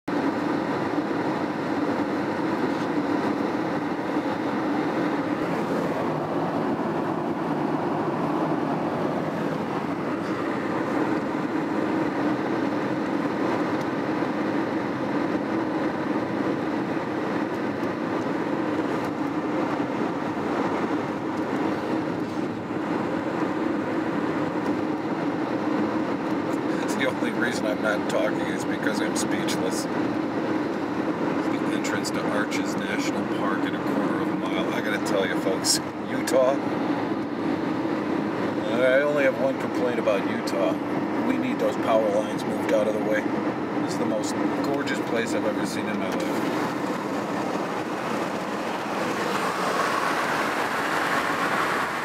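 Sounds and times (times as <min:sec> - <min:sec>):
car cabin road and engine hum: 0:00.0 - 0:52.0.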